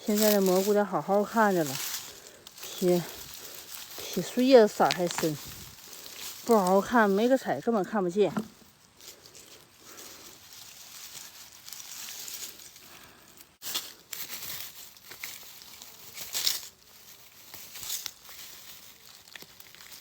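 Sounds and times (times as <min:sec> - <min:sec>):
dry leaves rustling and crackling: 0:00.0 - 0:20.0.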